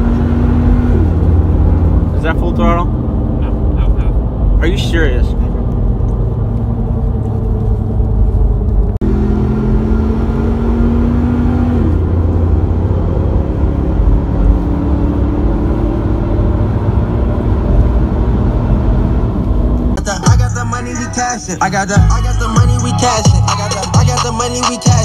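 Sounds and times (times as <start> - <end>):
truck engine and road noise: 0.0 - 25.0.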